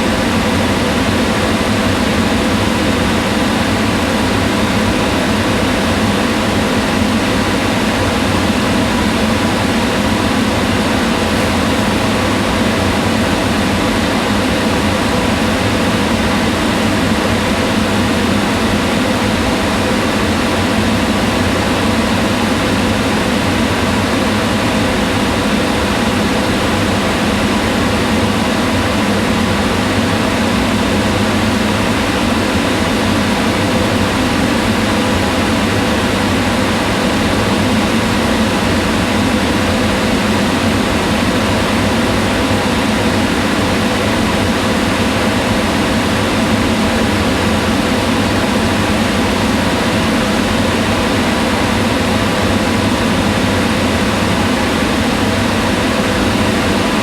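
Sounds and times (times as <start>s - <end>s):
range hood extractor fan running: 0.0s - 57.0s.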